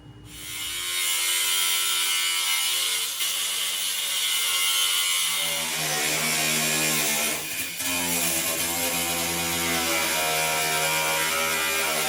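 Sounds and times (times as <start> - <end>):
power saw cutting sheet steel: 0.3 - 12.0.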